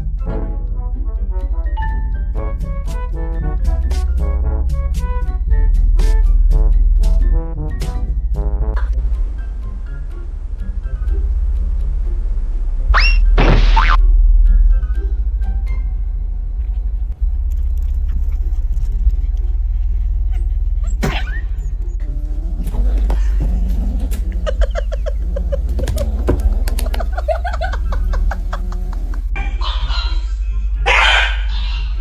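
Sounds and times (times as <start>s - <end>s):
loud low rumble: 0.0s - 32.0s.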